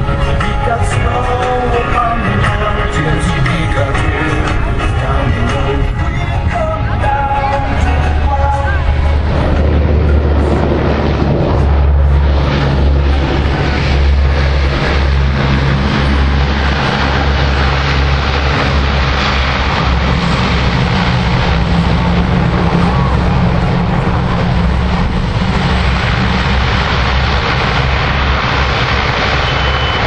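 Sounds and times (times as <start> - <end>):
rushing roar of air: 0.0 - 30.0
turboprop engines droning: 0.0 - 30.0.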